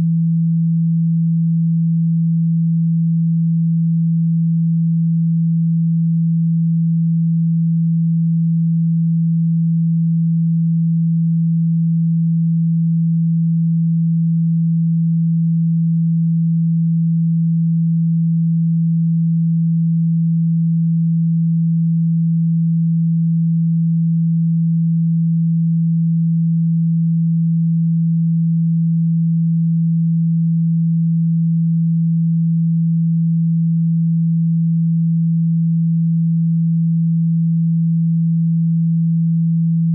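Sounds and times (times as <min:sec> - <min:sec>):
low-pitched pure tone: 0:00.0 - 0:39.9.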